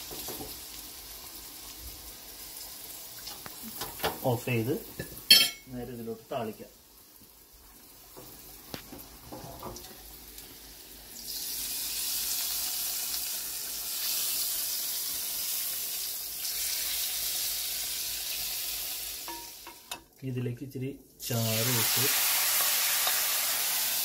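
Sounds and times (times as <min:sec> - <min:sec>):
hot oil sizzling: 0:00.0 - 0:20.2, 0:21.1 - 0:24.0.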